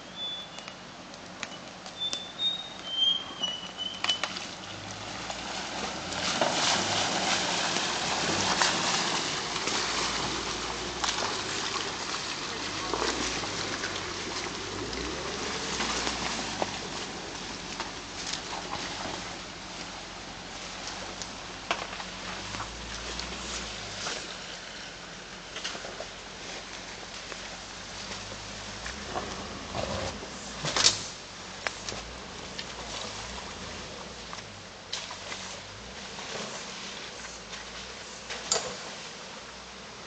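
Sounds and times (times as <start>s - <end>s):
car engine rumbling: 0.0s - 40.0s
tyres squelching and splashing: 1.2s - 39.1s.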